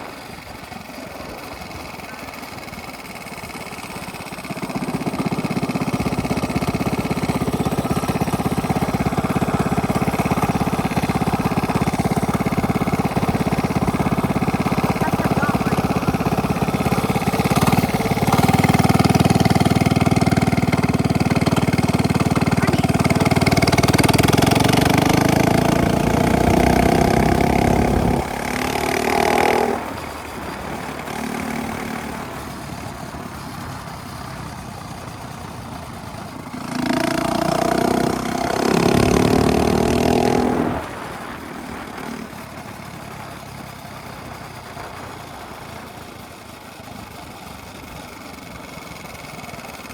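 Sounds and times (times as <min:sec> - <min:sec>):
small engine revving: 0:00.0 - 0:49.9.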